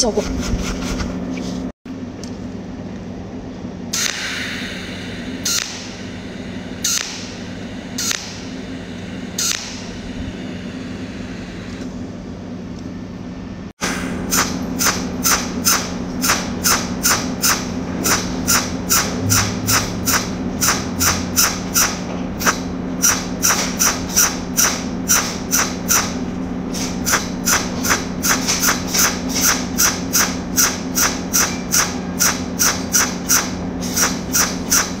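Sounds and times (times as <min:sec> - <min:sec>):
low hum: 0:00.0 - 0:32.2
welding arc zaps: 0:04.0 - 0:11.8, 0:13.8 - 0:35.0.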